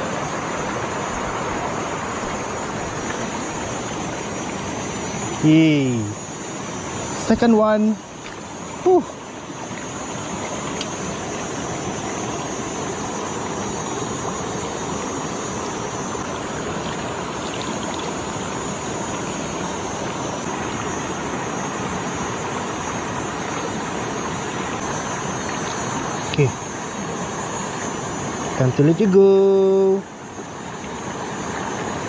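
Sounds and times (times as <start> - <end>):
creek rushing over stones: 0.0 - 29.2.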